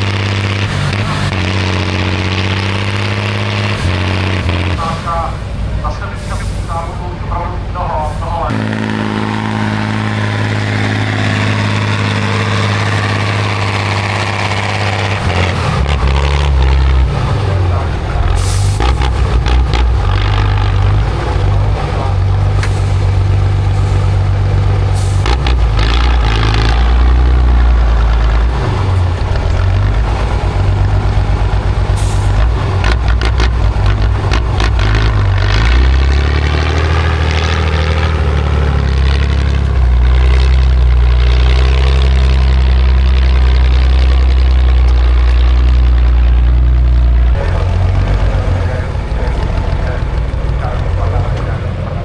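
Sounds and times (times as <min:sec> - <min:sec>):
truck diesel engine under load: 0:00.0 - 0:52.0.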